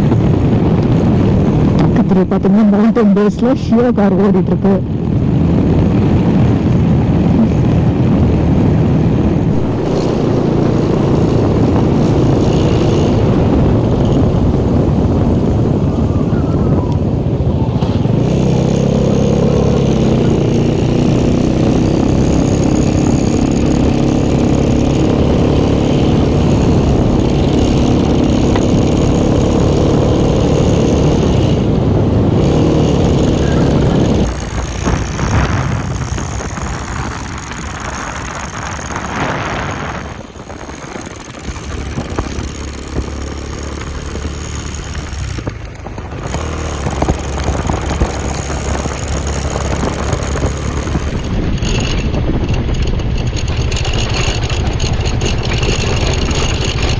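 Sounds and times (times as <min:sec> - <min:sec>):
motorcycle engine running: 0:00.0 - 0:56.9
road and wind noise: 0:00.0 - 0:56.9.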